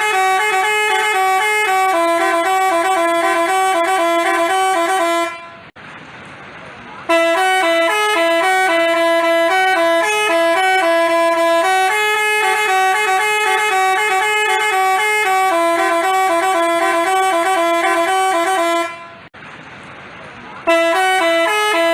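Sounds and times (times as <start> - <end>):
multi-tone musical bus horn: 0.0 - 5.8, 7.0 - 19.4, 20.6 - 21.9.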